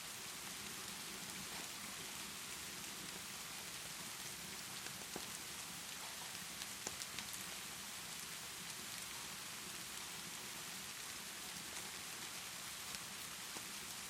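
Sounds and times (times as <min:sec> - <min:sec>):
steady rainfall: 0:00.0 - 0:14.0
fireplace crackles: 0:00.2 - 0:14.0.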